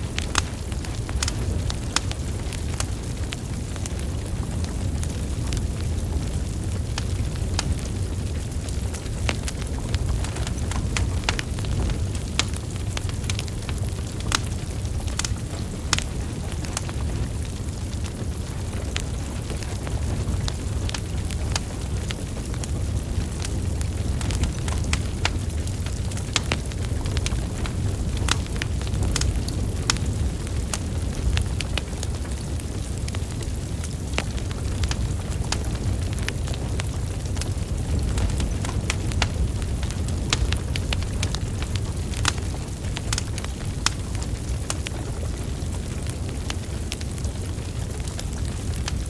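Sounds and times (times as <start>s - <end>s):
burning logs crackling: 0.0s - 49.0s
low rumble of flames: 0.0s - 49.0s.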